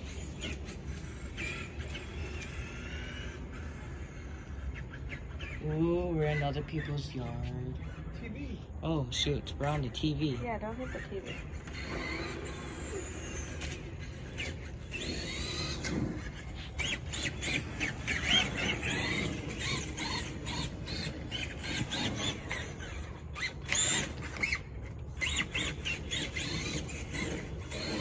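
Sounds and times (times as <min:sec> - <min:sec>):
electric motor whining: 0:00.0 - 0:08.6, 0:09.2 - 0:28.0.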